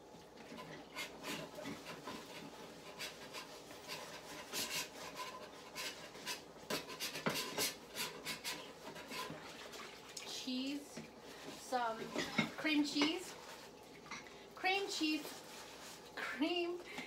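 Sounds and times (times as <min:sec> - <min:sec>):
pan being scrubbed: 0:00.4 - 0:16.8.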